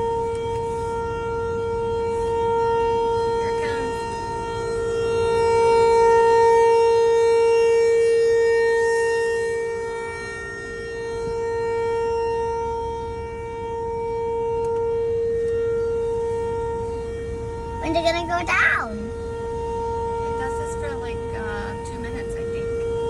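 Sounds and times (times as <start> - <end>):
tornado warning siren: 0.0 - 23.0.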